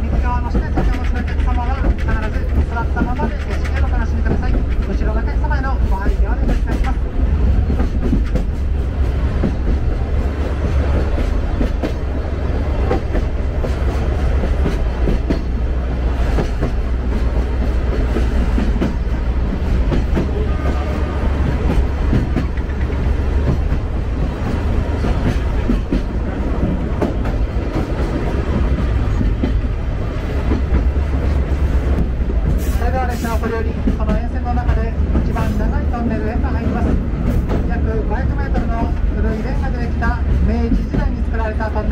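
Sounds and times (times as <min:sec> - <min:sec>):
wheels clicking over rail joints: 0:00.0 - 0:39.2
train carriage rumble: 0:00.0 - 0:41.9.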